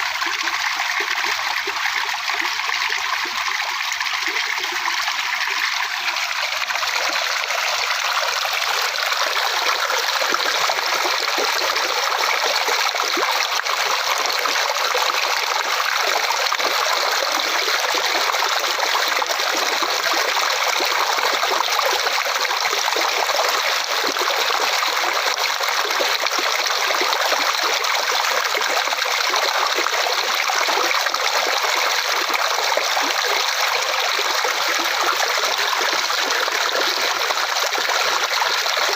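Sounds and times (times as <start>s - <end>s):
small stream trickling: 0.0s - 38.9s.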